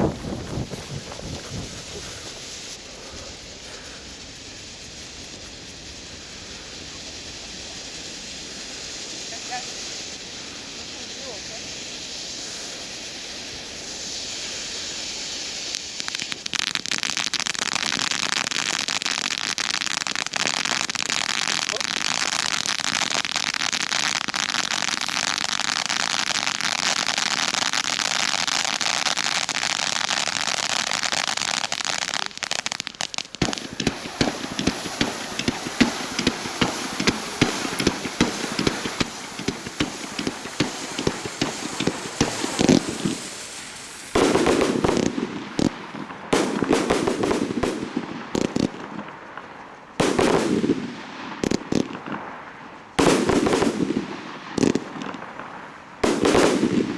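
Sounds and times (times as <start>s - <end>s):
fireworks crackling and banging: 0.0s - 56.9s.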